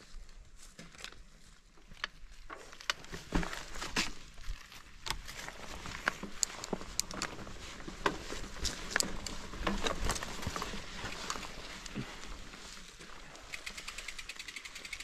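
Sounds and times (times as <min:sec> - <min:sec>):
tyres crunching twigs and leaves: 0:00.0 - 0:14.8
bike rattling: 0:01.8 - 0:15.0
steady rustle: 0:02.5 - 0:15.0.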